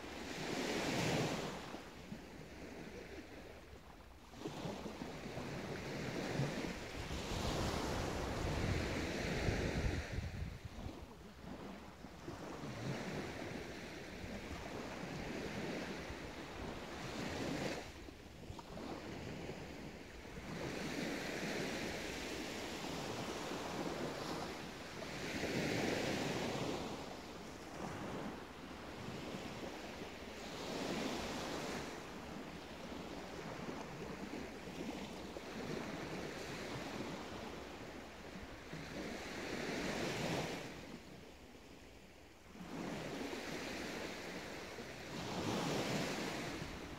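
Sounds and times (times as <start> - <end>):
small waves washing onto sand: 0.0 - 46.9.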